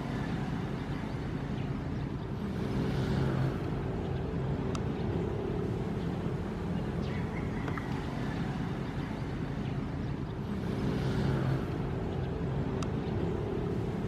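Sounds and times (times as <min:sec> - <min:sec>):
ocean waves rumbling: 0:00.0 - 0:14.0.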